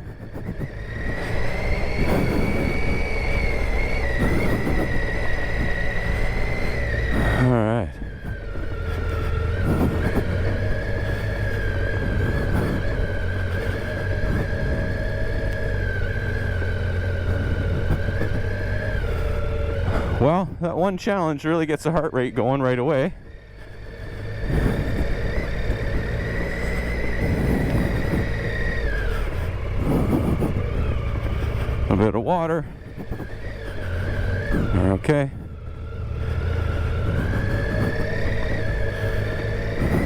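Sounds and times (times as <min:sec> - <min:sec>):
high whine: 0:00.0 - 0:40.0
motorcycle engine running: 0:00.0 - 0:40.0
road and wind noise: 0:00.0 - 0:40.0.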